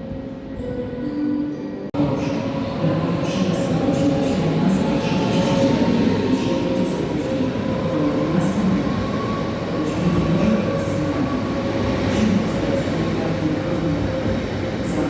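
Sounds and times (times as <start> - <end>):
train rumbling: 1.9 - 15.0.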